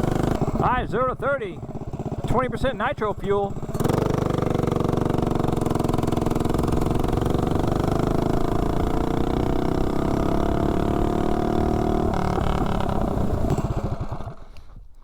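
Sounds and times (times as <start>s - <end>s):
mini bike engine accelerating: 0.0s - 1.0s, 1.6s - 15.0s.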